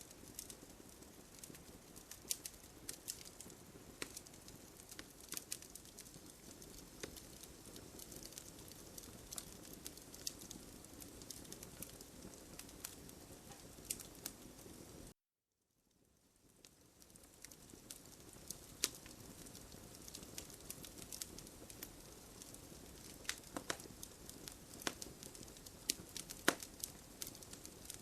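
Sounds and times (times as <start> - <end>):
hiss of burning: 0.0 - 15.1, 16.5 - 28.0
wood fire crackling: 0.0 - 15.2, 15.9 - 28.0.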